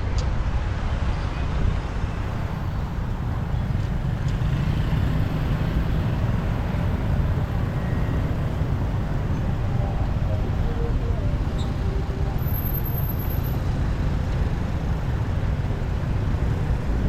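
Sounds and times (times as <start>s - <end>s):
road noise: 0.0s - 17.0s
surrounding traffic: 0.0s - 17.0s.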